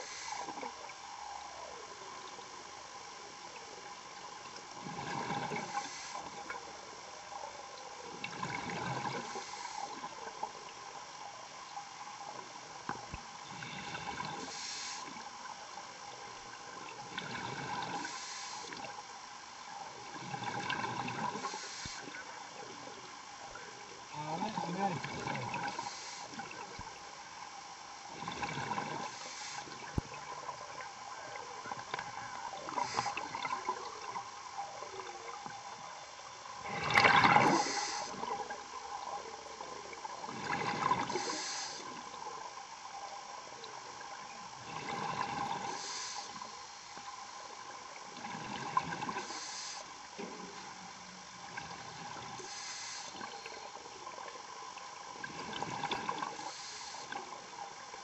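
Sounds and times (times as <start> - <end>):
exhaled bubbles underwater: 0.0 - 58.0
steady breathing hiss: 0.0 - 58.0.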